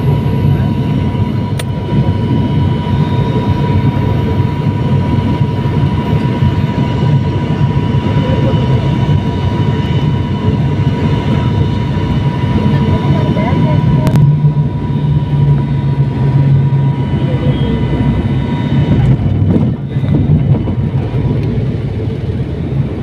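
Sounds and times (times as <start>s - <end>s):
high engine whine: 0.0s - 23.0s
low cabin hum: 0.0s - 23.0s.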